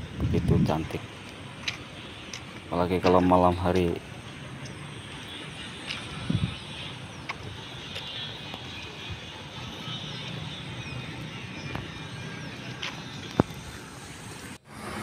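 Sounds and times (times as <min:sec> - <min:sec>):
distant road traffic: 0:00.0 - 0:15.0.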